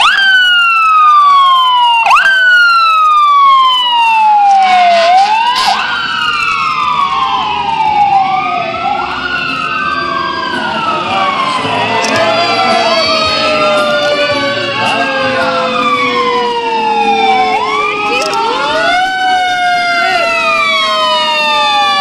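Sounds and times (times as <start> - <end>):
emergency vehicle sirens wailing: 0.0 - 22.0.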